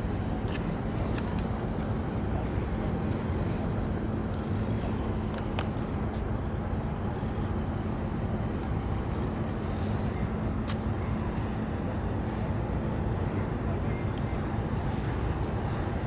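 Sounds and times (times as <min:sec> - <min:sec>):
constant low hum: 0:00.0 - 0:16.0
low mechanical rumble: 0:00.0 - 0:16.0.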